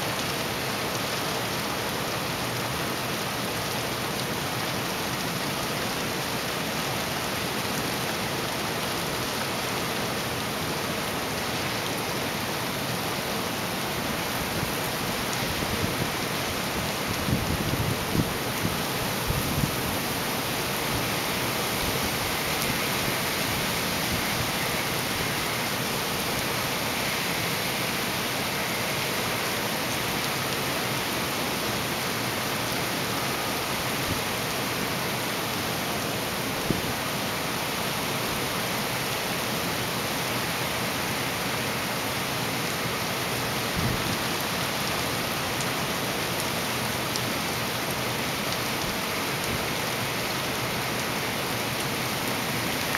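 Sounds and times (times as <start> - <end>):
heavy rain hiss: 0.0 - 52.9.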